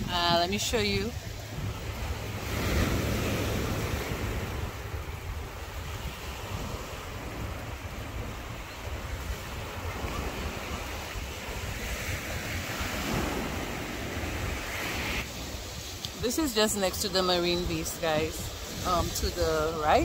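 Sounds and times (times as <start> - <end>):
small waves breaking on sand: 0.0 - 20.0
wind buffeting microphone: 0.0 - 20.0.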